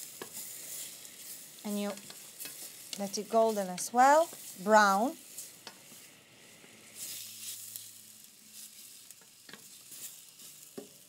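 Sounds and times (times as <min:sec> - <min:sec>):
meat and onion sizzling in oil: 0:00.0 - 0:11.0.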